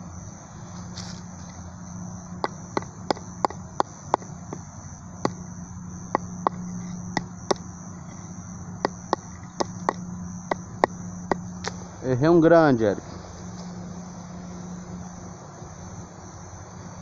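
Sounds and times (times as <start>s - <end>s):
high-pitched insect drone: 0.0s - 17.0s
low steady hum: 0.0s - 17.0s.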